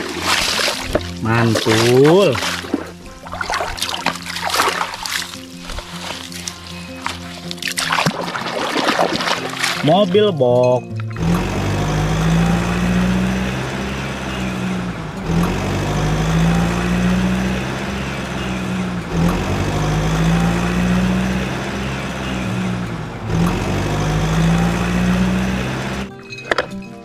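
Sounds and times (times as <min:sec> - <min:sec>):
engine humming: 0:00.0 - 0:26.8.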